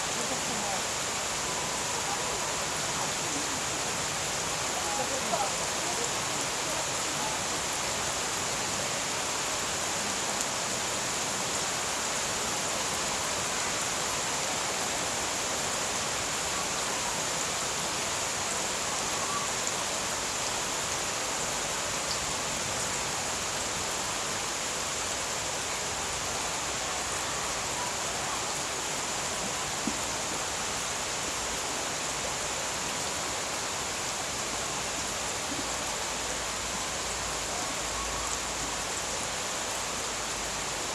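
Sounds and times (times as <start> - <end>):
rain pouring on plants: 0.0 - 40.9.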